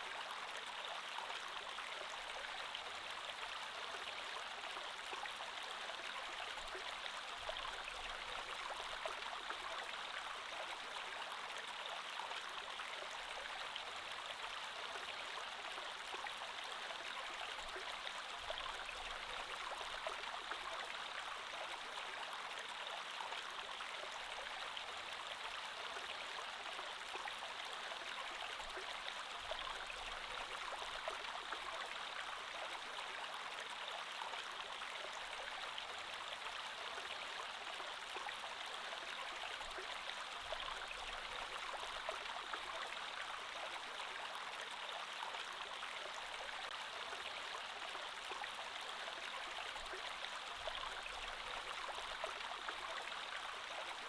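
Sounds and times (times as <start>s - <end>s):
creek water babbling over rocks: 0.0s - 54.0s.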